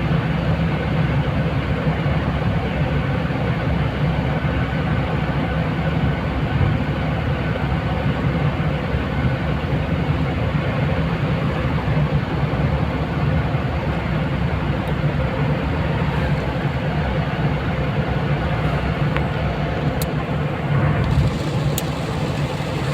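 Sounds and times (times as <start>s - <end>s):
car engine and road noise: 1.1s - 22.9s.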